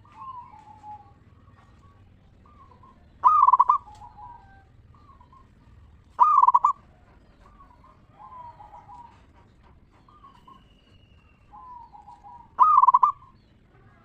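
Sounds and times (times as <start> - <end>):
doves cooing: 0.0 - 14.0.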